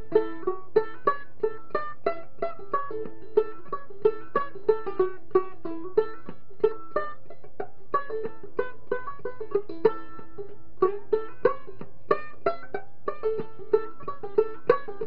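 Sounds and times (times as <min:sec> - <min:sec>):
banjo ukulele melody: 0:00.0 - 0:15.0.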